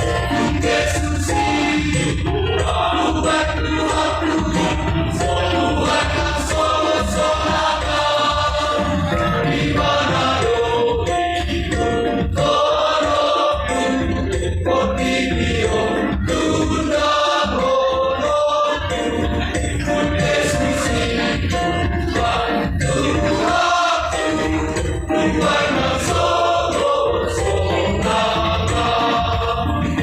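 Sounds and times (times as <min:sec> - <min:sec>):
choir singing a hymn: 0:00.0 - 0:30.0.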